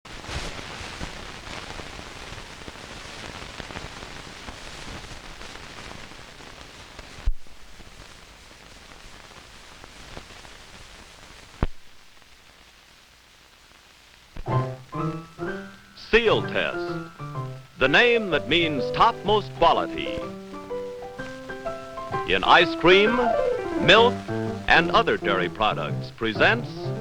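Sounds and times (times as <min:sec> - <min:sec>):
film soundtrack crackle and hiss: 0:00.1 - 0:27.0.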